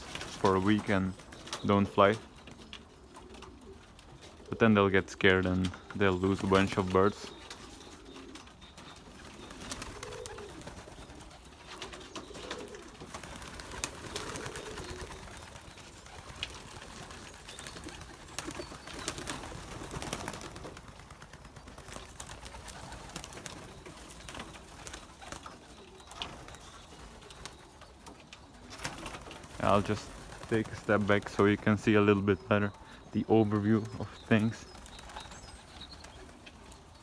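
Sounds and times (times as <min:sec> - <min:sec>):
pigeons cooing softly: 0:00.0 - 0:37.0.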